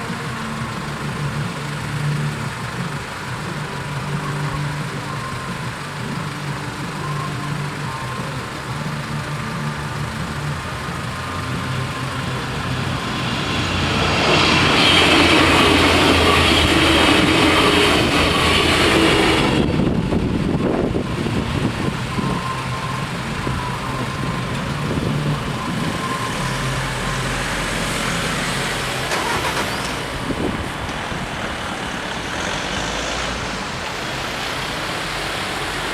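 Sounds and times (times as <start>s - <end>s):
steady engine hum: 0.0s - 35.9s
vehicle passing by: 0.0s - 35.9s.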